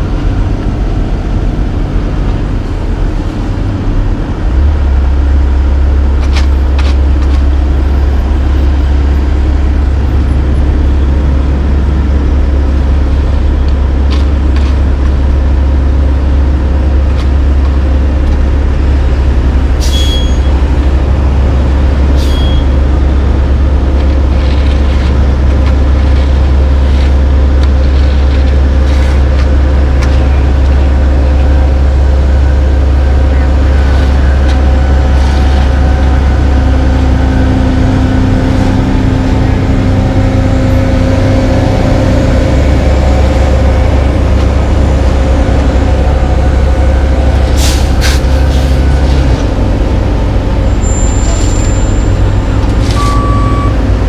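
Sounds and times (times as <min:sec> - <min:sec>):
heavy diesel engines rumbling: 0:00.0 - 0:54.0.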